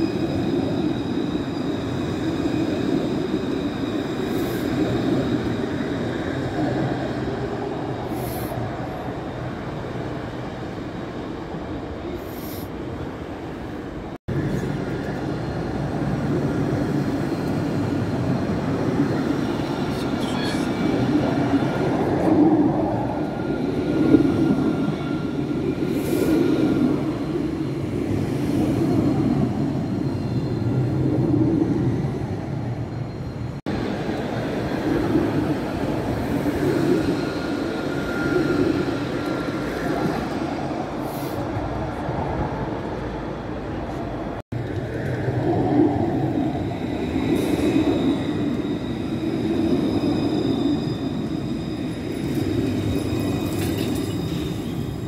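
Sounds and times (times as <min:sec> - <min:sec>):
tram rumbling on rails: 0:00.0 - 0:55.0.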